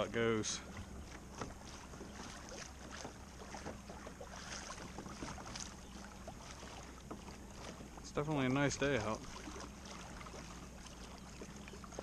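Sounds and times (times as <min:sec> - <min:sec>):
water lapping against kayak hull: 0:00.0 - 0:12.0.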